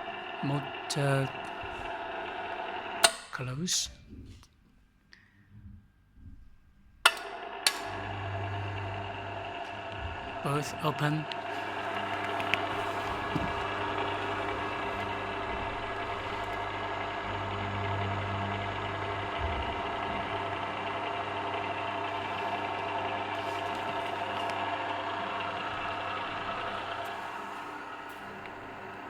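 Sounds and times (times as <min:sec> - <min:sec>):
gate motors humming: 0:00.0 - 0:03.9, 0:07.0 - 0:29.0.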